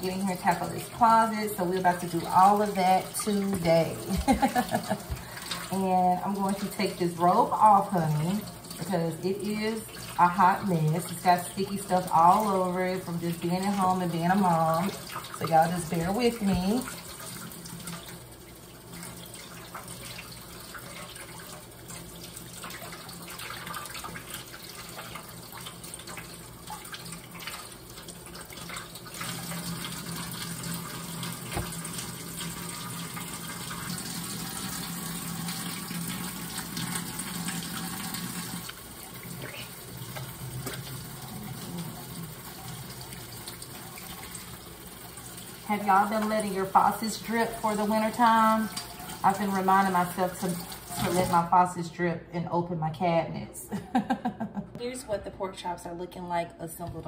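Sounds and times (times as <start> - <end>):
water splashing into sink: 0.0 - 51.6
faucet running: 0.0 - 51.7.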